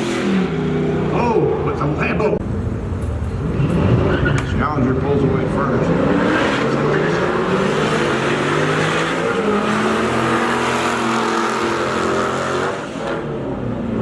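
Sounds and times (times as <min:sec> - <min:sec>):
drag cars accelerating: 0:02.4 - 0:14.0.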